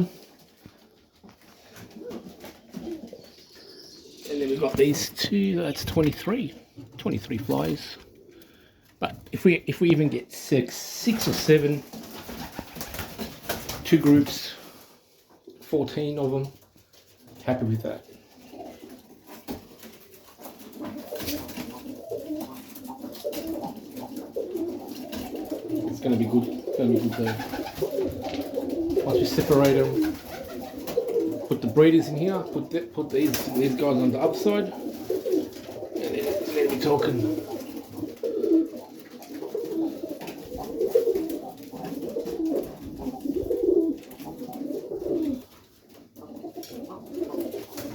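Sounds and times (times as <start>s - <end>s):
pigeons cooing: 0.0s - 9.0s, 18.0s - 47.9s.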